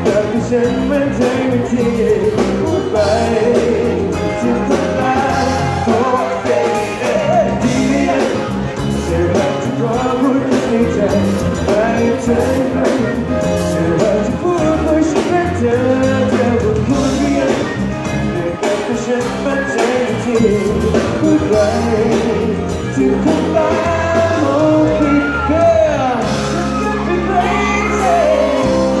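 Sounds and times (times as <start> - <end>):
live pop band playing: 0.0 - 29.0
man singing: 0.0 - 29.0.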